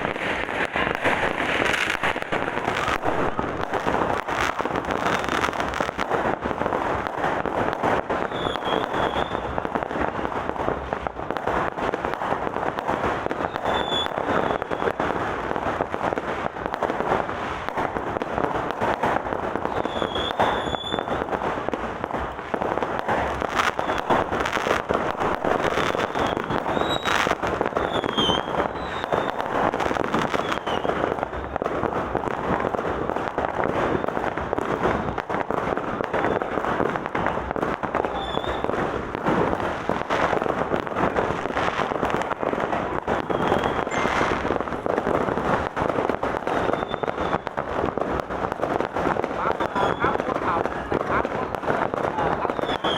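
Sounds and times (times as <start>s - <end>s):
fireworks crackling bangs: 0.0s - 52.9s.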